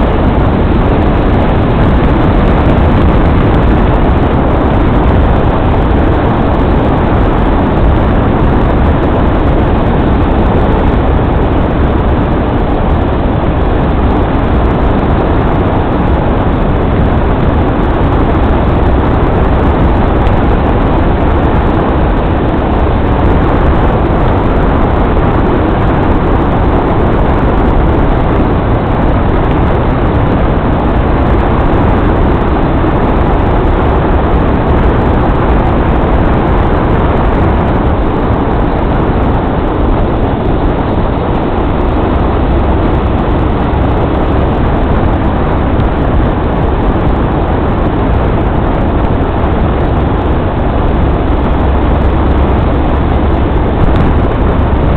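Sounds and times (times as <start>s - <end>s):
vehicle road noise rumbling: 0.0s - 54.9s.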